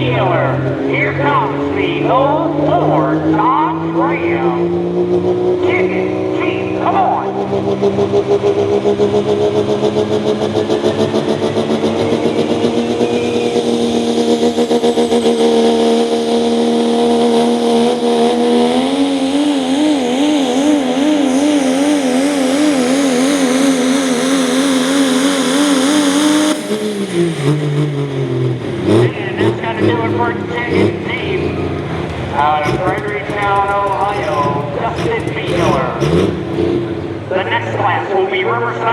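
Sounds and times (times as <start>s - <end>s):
pickup truck engine at full throttle: 0.0s - 38.9s.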